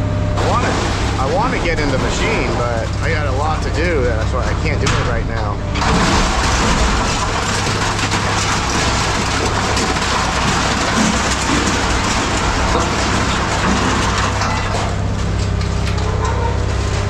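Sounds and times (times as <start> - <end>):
heavy machinery hum: 0.0 - 17.0
scrap metal rattling: 0.2 - 17.0.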